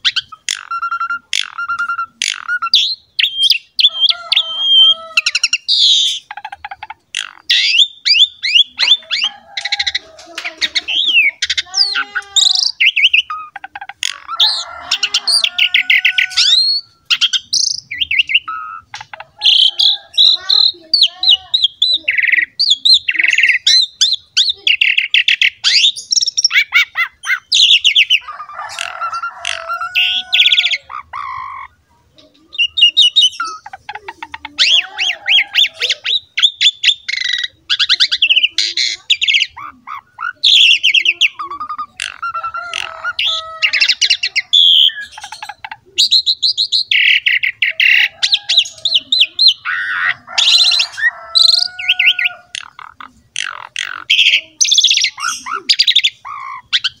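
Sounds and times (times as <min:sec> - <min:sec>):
myna singing chattering trills: 0:00.0 - 0:57.0.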